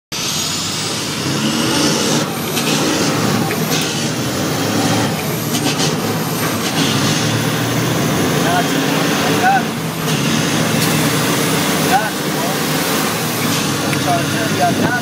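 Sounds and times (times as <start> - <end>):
high whine: 0.1 - 15.0
truck engines accelerating: 0.1 - 15.0.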